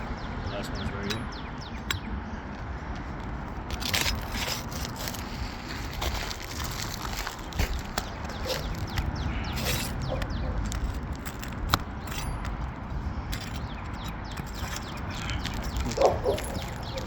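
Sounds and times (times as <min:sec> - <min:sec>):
roof shingle crackling and scraping: 0:01.2 - 0:17.0.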